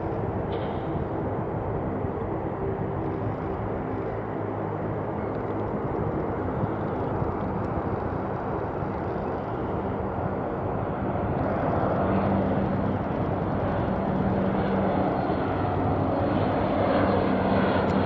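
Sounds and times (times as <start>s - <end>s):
aircraft engines humming: 0.0s - 18.0s.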